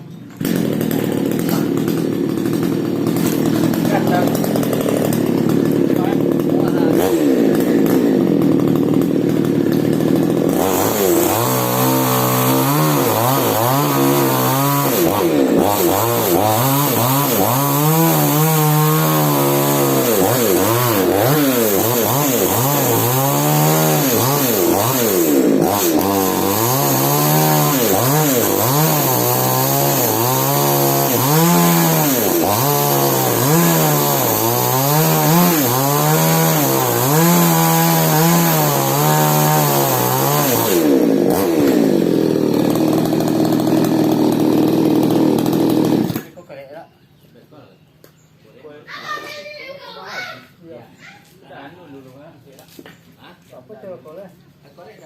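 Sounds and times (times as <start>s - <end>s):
chainsaw cutting wood: 0.0s - 46.4s.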